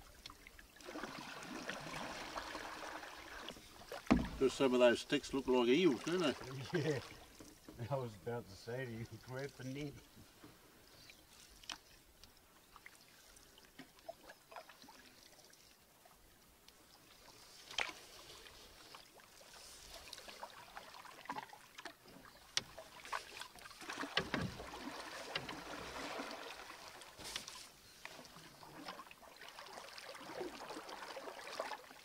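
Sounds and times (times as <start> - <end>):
paddles splashing in water: 0.0 - 7.9, 8.9 - 16.2, 16.8 - 32.0.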